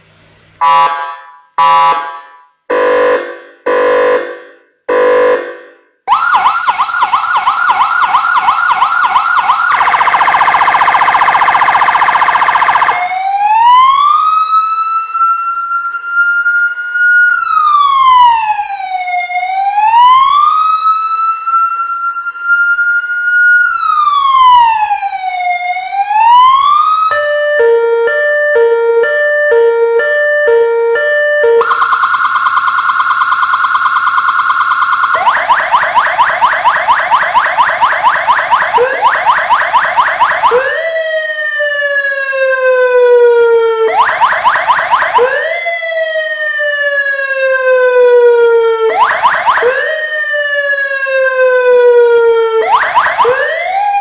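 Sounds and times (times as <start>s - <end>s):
electronic police siren: 0.6s - 54.0s.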